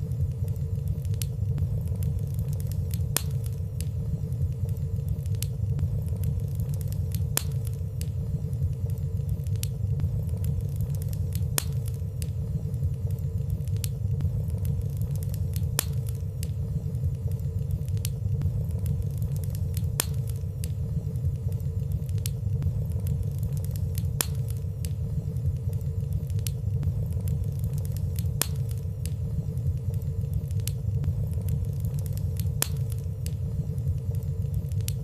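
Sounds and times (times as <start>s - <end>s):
fire burning with crackles: 0.0s - 35.0s.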